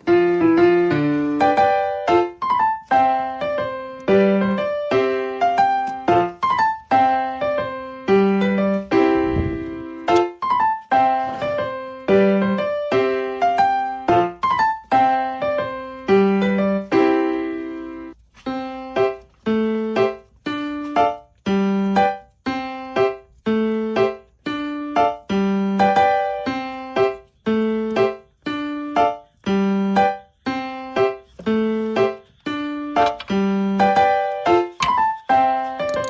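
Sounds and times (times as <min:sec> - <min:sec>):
repeating piano notes: 0:00.0 - 0:36.0.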